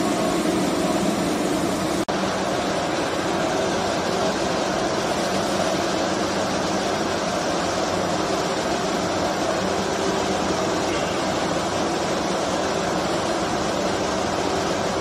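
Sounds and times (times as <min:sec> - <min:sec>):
factory machinery drone: 0:00.0 - 0:15.0.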